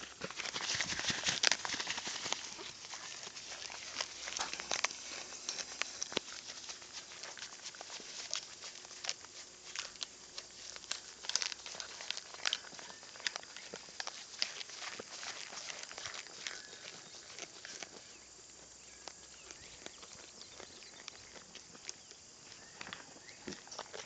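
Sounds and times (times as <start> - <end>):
goat chewing leaf crunches: 0.0 - 24.0.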